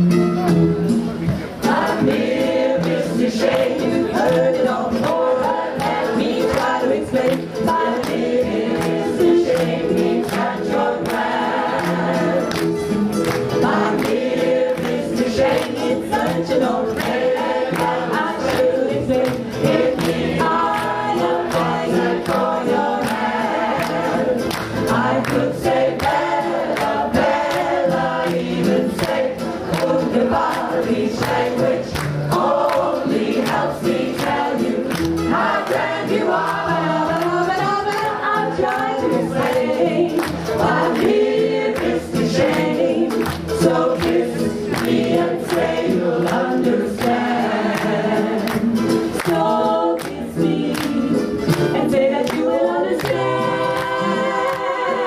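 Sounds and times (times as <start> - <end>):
choir singing in harmony: 1.6 - 55.0.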